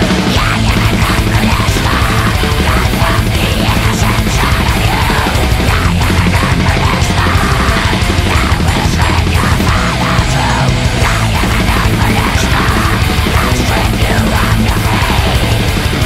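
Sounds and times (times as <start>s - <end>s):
black metal band playing: 0.0s - 16.0s.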